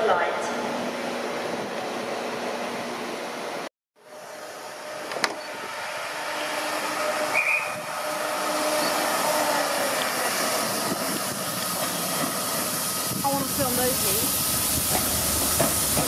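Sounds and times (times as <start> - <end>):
diesel locomotives running: 0.0 - 16.0.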